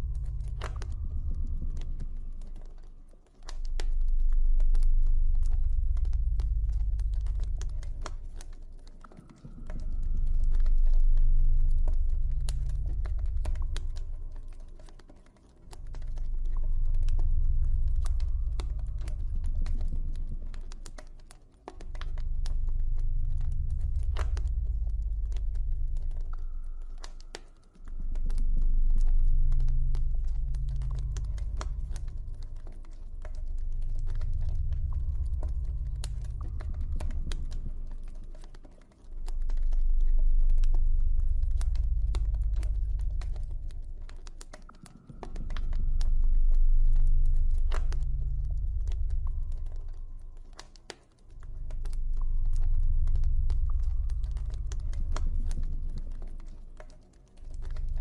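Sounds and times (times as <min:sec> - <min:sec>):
deep ambient drone: 0:00.0 - 0:58.0.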